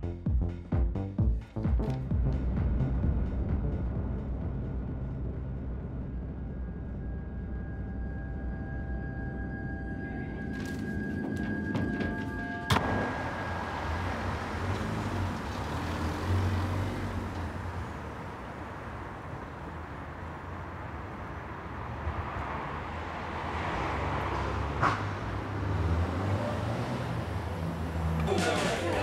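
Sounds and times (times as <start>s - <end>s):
vehicles passing: 1.2s - 29.0s
road traffic hum: 1.3s - 29.0s.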